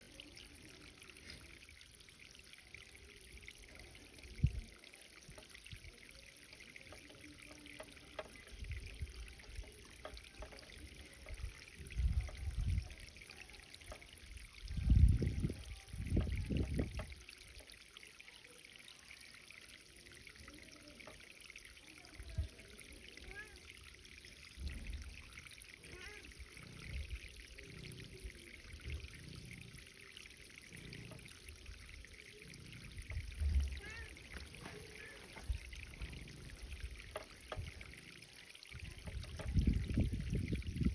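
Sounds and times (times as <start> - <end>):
water pouring onto garden bed: 0.0 - 40.9.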